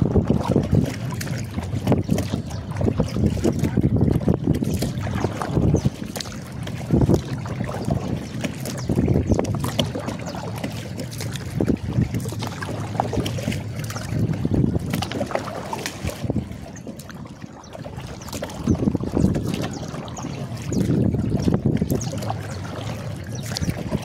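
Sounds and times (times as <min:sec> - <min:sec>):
water knocking against hull: 0:00.0 - 0:24.0
water splashing: 0:00.0 - 0:24.0
wind buffeting microphone: 0:00.0 - 0:24.0.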